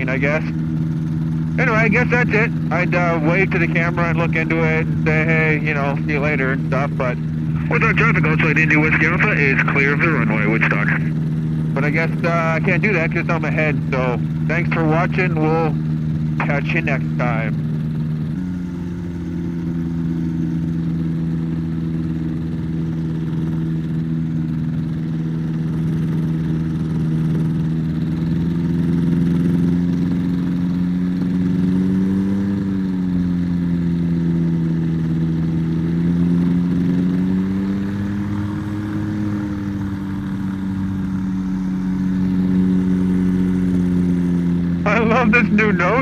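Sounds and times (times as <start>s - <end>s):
propeller turning: 0.0s - 46.0s
two-stroke aircraft engine running: 0.0s - 46.0s.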